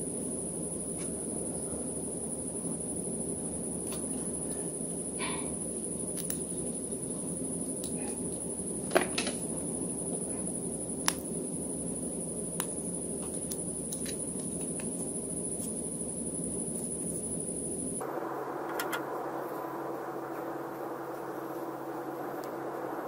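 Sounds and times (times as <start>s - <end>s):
constant high whine: 0.0s - 23.0s
steady background hum: 0.0s - 23.0s.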